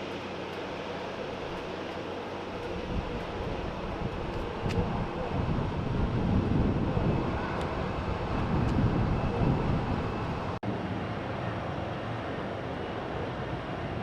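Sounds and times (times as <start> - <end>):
jet airliner engine rumble: 0.0 - 14.0.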